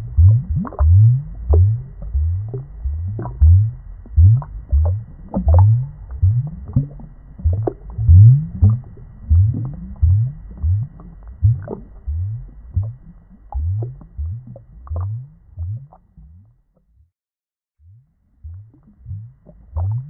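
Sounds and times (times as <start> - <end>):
underwater bubbling and gurgling: 0.0 - 16.9, 18.2 - 20.0.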